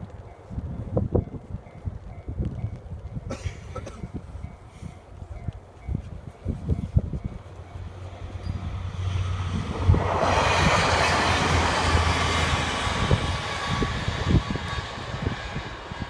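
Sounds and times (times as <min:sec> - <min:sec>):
train passing close by: 0:00.0 - 0:16.0
wind buffeting microphone: 0:00.0 - 0:16.0.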